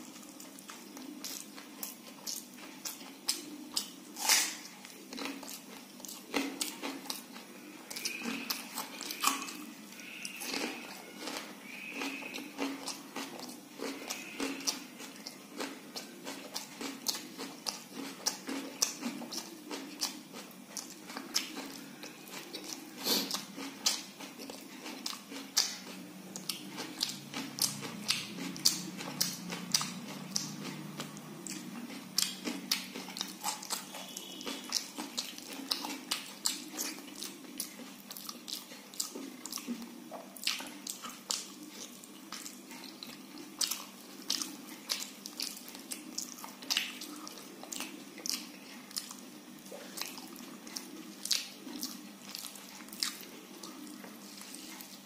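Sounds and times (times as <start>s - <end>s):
person chewing and lip-smacking: 0.0s - 55.0s.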